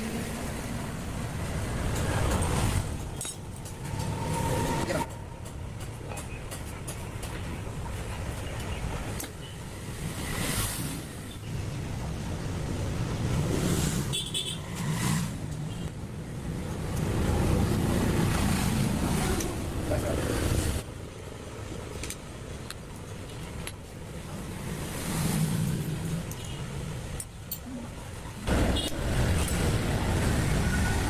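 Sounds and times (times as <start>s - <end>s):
motor vehicle noise: 0.0s - 31.0s.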